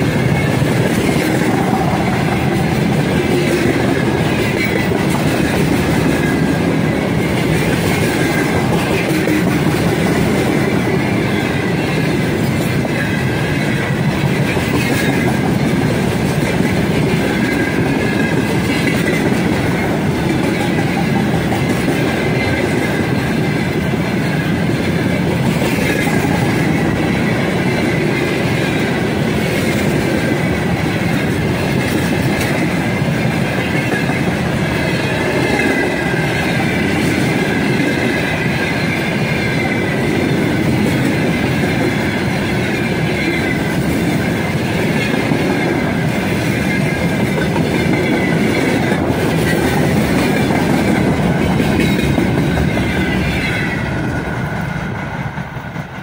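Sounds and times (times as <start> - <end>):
steel wheels rumbling on rails: 0.0 - 56.0
wheels clickety-clack over rail joints: 0.0 - 56.0.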